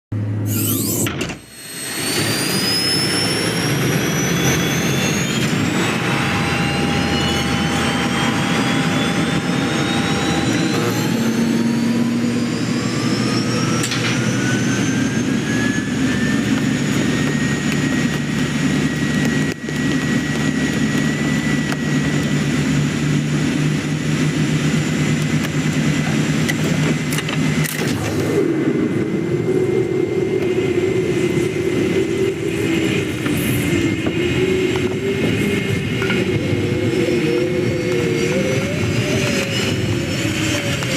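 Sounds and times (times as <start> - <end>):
jet engines whining: 0.2 - 40.9
heavy rumble: 2.0 - 40.9.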